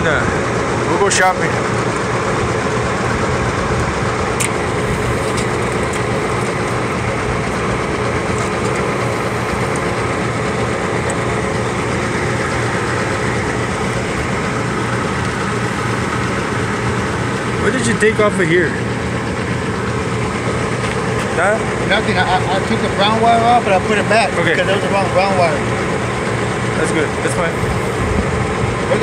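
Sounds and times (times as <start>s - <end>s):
motor droning: 0.0s - 29.0s.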